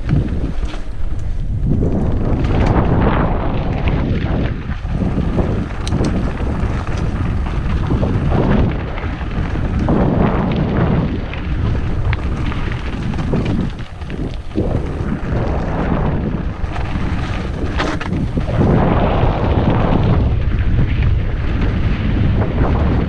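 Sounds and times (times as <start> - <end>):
bike tyres rumbling on dirt: 0.0 - 23.0
wind buffeting microphone: 0.0 - 23.0.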